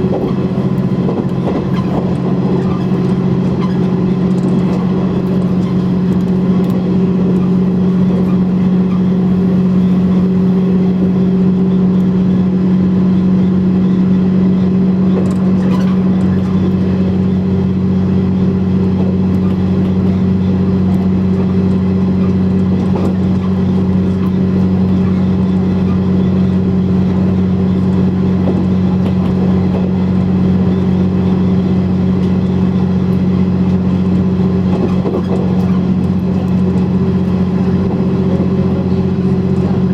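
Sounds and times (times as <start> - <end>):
diesel railcar engine running: 0.0 - 39.9.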